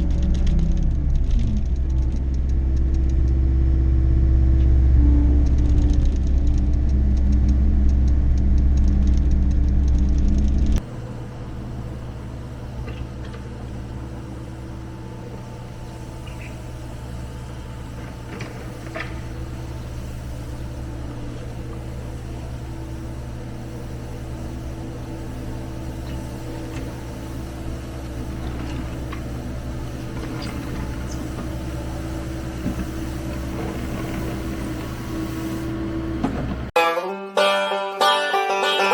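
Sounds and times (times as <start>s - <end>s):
diesel engine running: 0.0s - 36.8s.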